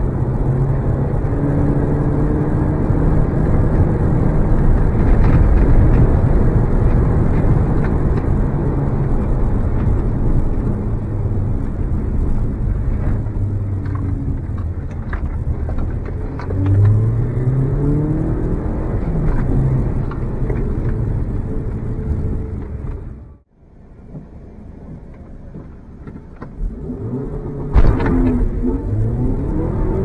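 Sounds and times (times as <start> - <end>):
car engine accelerating: 0.0 - 23.5, 24.1 - 30.0.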